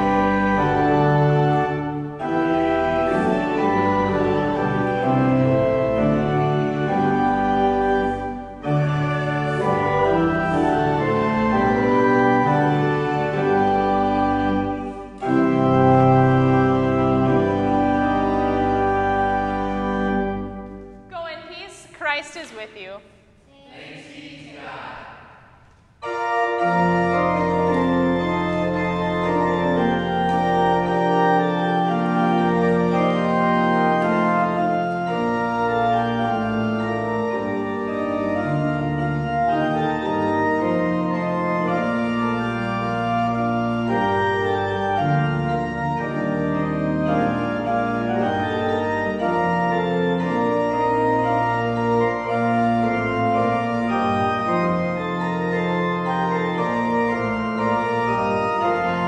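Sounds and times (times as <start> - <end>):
organ playing sustained chords: 0.0 - 21.7, 24.9 - 59.0.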